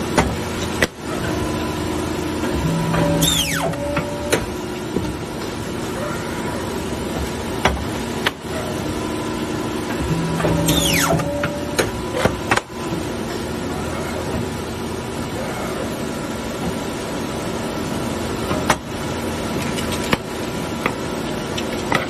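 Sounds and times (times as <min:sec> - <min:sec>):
paper cutter humming: 0:00.0 - 0:21.6.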